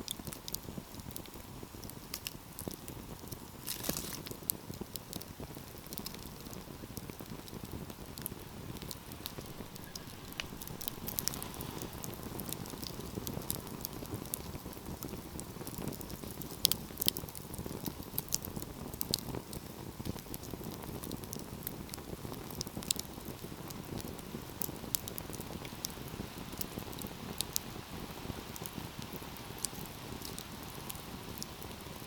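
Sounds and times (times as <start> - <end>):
fire burning in fireplace: 0.0 - 32.0
fire crackles and pops: 0.0 - 32.0.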